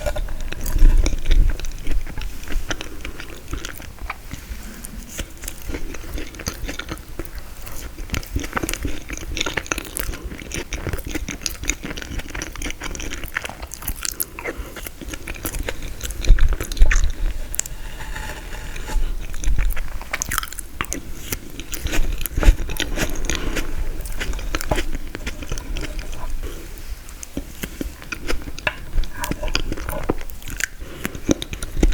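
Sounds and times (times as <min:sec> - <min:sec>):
chewing and crunching: 0:00.0 - 0:31.9.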